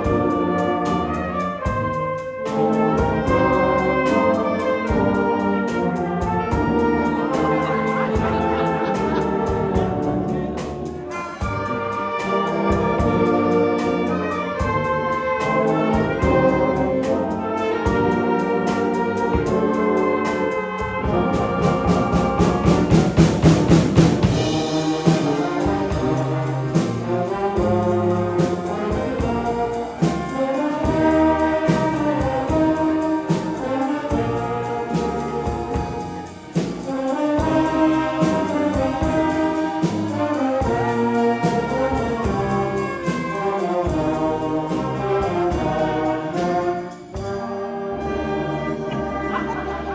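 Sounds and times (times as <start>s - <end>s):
trumpets and trombones: 0.0s - 49.9s
wind band playing: 0.0s - 49.9s.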